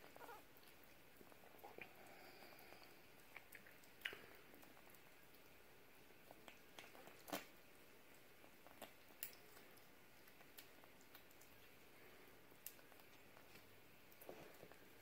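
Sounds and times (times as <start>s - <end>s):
kitten chewing and smacking: 0.0s - 15.0s.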